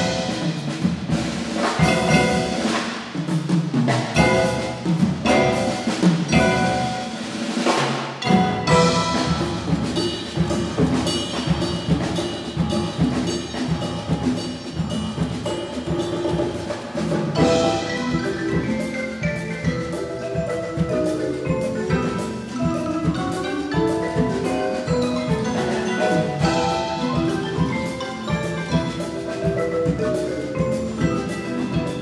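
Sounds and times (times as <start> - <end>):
percussion ensemble with piano: 0.0 - 32.0.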